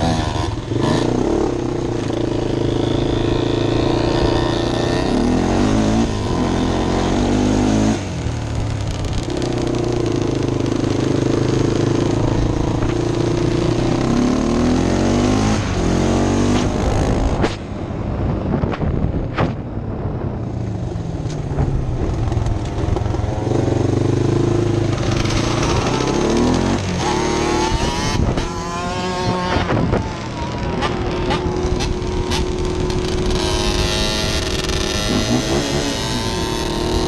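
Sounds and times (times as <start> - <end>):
atv and dirt bike engines: 0.0 - 37.0.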